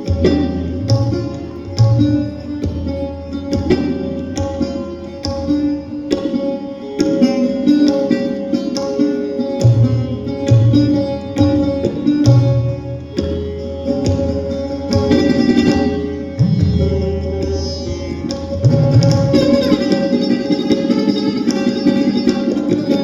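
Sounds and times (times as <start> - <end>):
plucked string instrument: 0.0 - 23.0
tabla drumming: 0.0 - 23.0.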